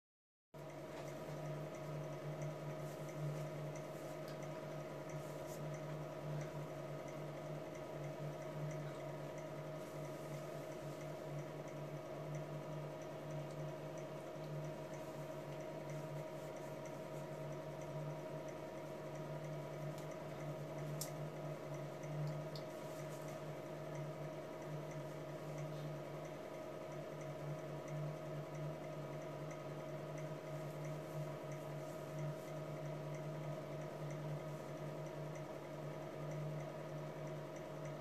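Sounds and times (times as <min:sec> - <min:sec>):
faint ticks: 0:00.6 - 0:38.0
room hum with held tones: 0:00.6 - 0:38.0.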